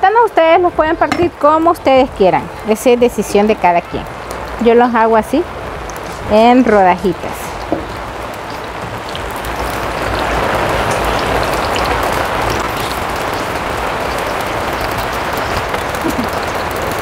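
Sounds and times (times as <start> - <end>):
rain on a tarp: 0.0 - 17.0.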